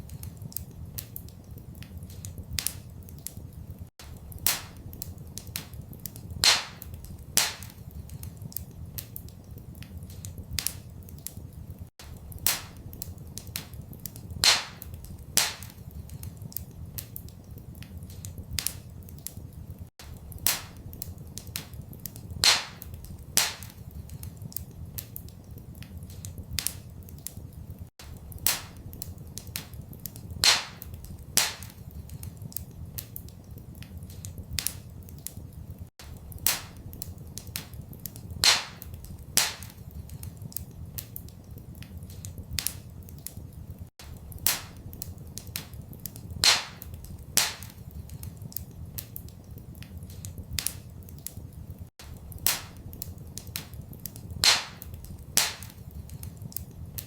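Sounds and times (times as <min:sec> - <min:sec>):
log fire crackling and popping: 0:00.0 - 0:57.0.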